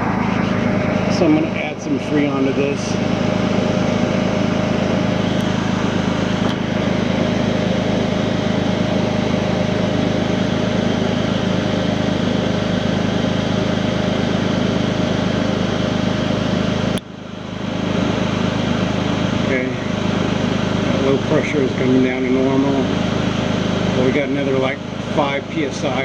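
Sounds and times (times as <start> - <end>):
air conditioning whir: 0.0 - 26.0
car engine idling: 0.0 - 26.0.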